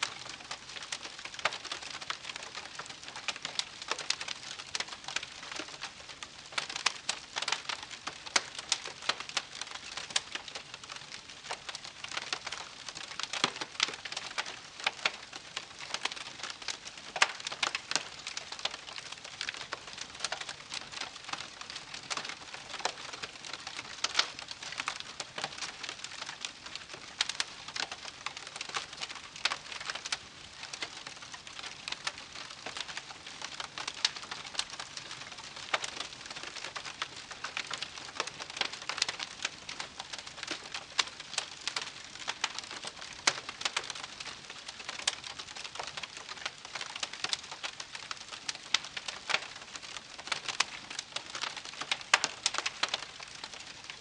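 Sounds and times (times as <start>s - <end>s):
campfire crackling and popping: 0.0s - 54.0s
soft steady hiss: 0.0s - 54.0s.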